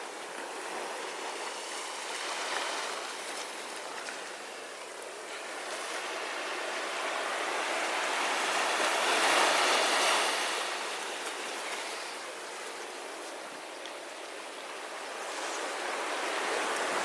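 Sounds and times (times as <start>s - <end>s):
sea wave washing up beach: 0.0s - 17.0s.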